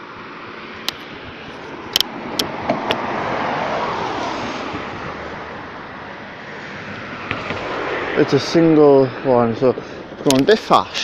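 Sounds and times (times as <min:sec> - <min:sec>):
diesel locomotive passing: 0:01.4 - 0:11.0.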